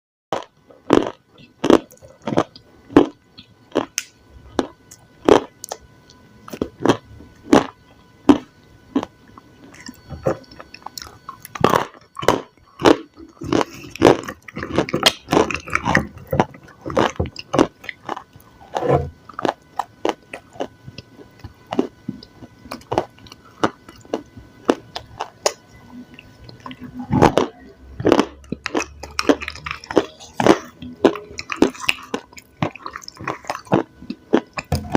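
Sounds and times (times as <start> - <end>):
dry clay being chewed: 0.3 - 34.9.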